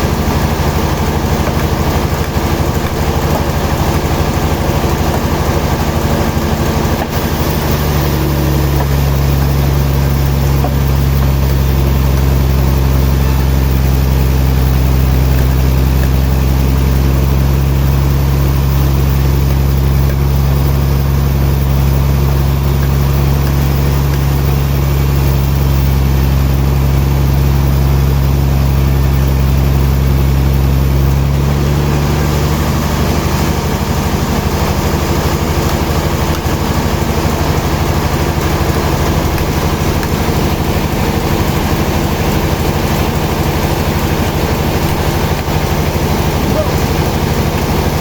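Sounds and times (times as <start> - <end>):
sawmill machinery humming: 0.0 - 48.0.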